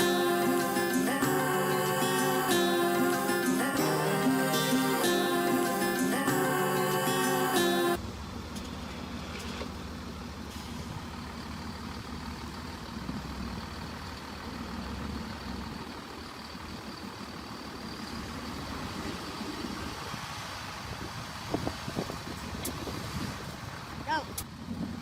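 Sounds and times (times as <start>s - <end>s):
heavy vehicle engine rumbling: 0.0s - 25.0s.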